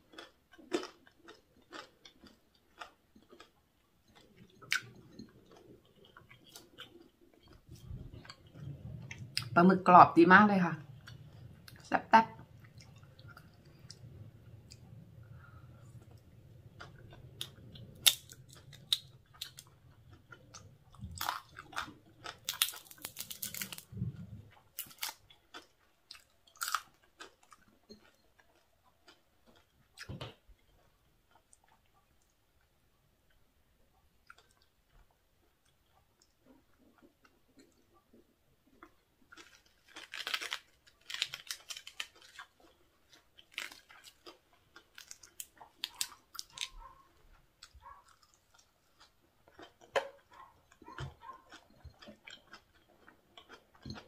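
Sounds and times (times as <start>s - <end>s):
crunchy chewing of fried food: 0.0s - 9.6s, 10.8s - 54.0s.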